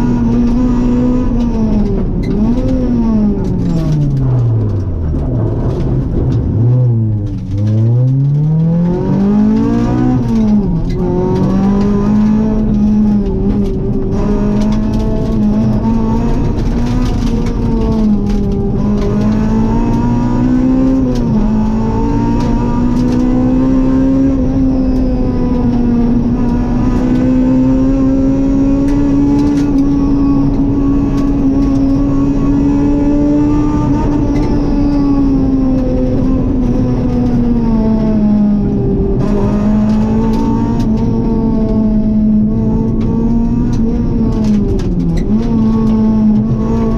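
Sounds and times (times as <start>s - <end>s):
rally car engine at high revs: 0.0s - 46.9s
road and tyre noise: 0.0s - 46.9s.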